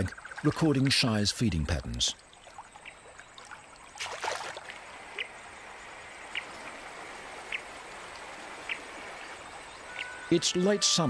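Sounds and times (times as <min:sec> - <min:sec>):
river water running: 0:00.0 - 0:11.0.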